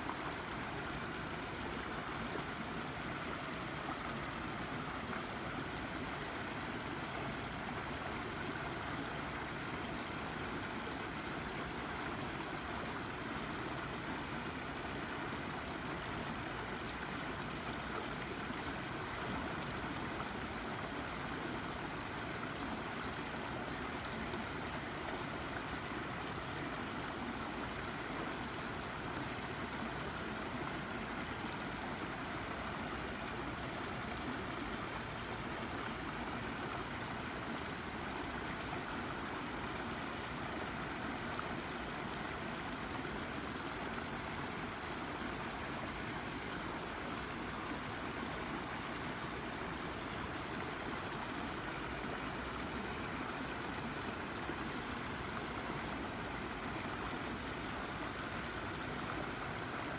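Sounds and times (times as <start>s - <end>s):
brook babbling over rock: 0.0s - 59.9s.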